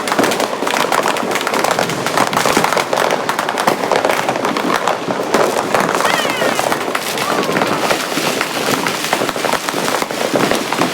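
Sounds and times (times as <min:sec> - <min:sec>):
firecrackers crackling: 0:00.0 - 0:10.9.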